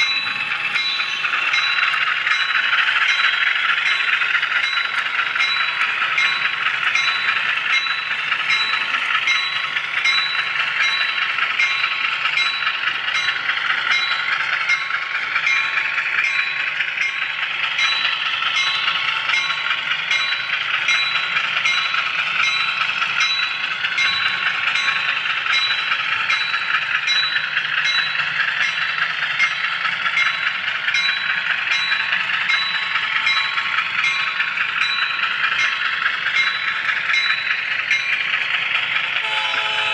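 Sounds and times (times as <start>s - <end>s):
wheels clicking over rail joints: 0.0s - 39.9s.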